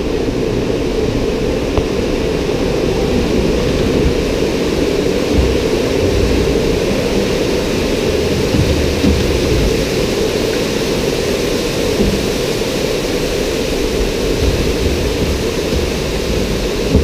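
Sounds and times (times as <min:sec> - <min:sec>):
low rumble: 0:00.0 - 0:17.0
water rushing along flume: 0:00.0 - 0:17.0.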